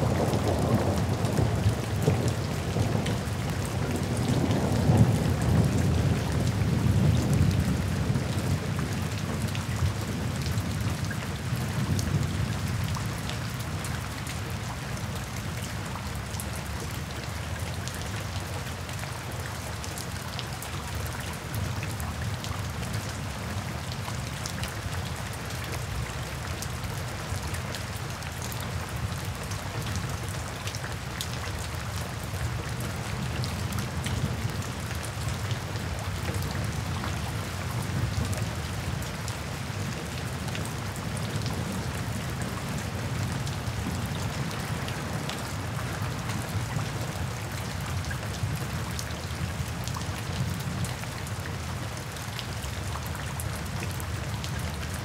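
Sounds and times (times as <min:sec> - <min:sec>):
rain on wet pavement: 0:00.0 - 0:55.0.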